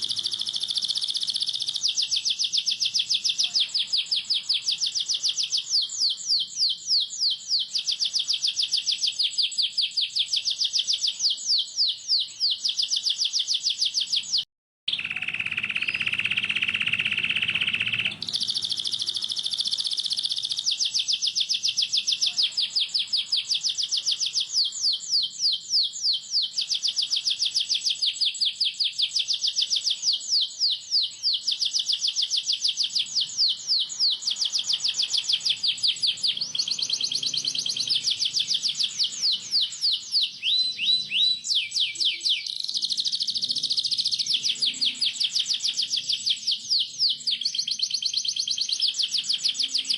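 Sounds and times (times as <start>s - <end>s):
canary trilling: 0.0s - 49.9s.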